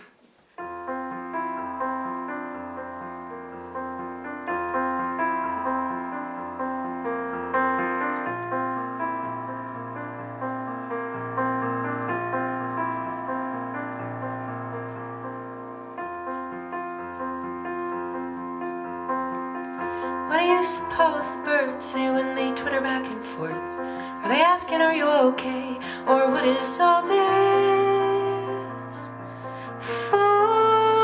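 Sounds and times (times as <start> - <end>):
piano chords over bass notes: 0.6 - 31.0.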